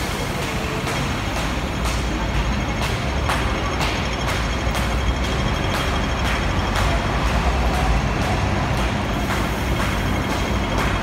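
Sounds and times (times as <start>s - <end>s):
buses and traffic rumbling: 0.0s - 11.0s
crossing signal ticking: 0.3s - 11.0s.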